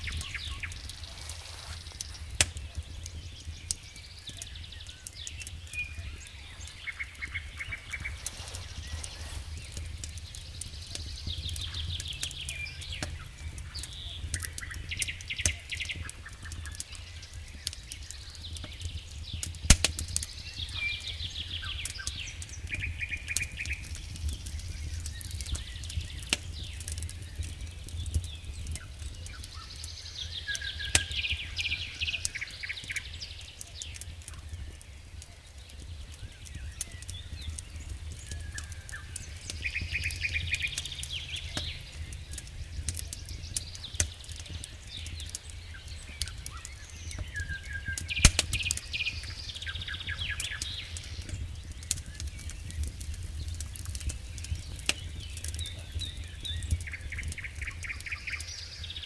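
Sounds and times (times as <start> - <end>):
campfire pops and crackles: 0.0 - 59.0
songbird singing trills: 0.0 - 59.0.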